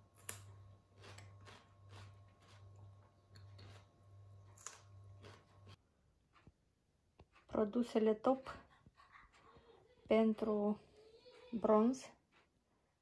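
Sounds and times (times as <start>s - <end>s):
soft chewing: 0.0s - 7.6s, 8.3s - 13.0s.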